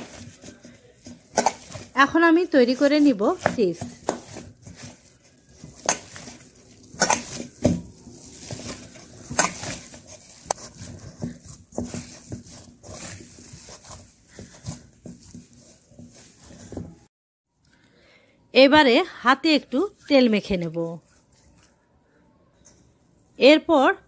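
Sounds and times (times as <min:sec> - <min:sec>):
dough squelching and slapping: 0:00.0 - 0:17.1, 0:19.6 - 0:21.9.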